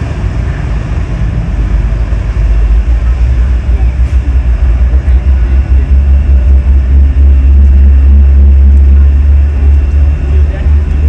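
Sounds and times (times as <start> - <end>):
jet airliner engines rumbling: 0.0 - 11.0.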